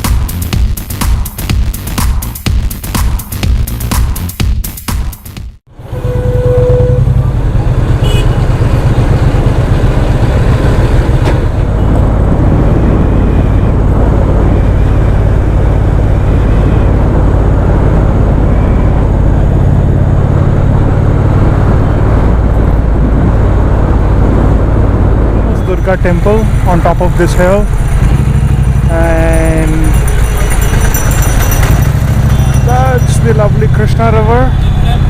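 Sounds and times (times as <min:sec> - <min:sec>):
motorcycle engine cruising: 0:05.6 - 0:35.0.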